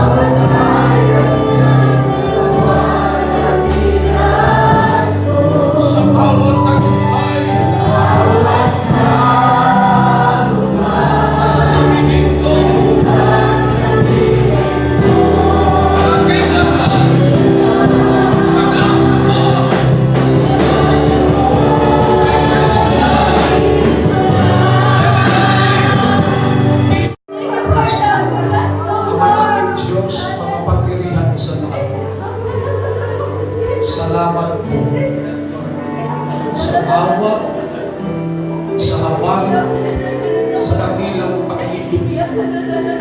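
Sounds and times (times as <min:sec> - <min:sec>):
group singing gospel song: 0:00.0 - 0:43.0
instrumental accompaniment: 0:00.0 - 0:43.0.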